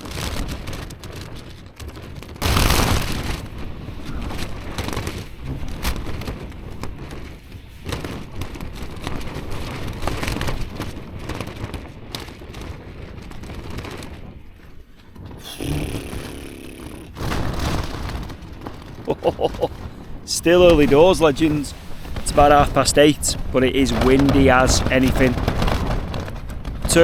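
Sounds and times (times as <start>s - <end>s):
low rumble of wind: 0.0s - 27.0s
tent fabric flapping: 0.0s - 27.0s.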